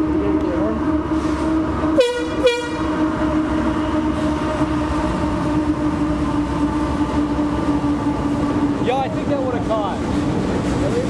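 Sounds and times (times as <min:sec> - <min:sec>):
train rumbling over bridge: 0:00.0 - 0:11.0.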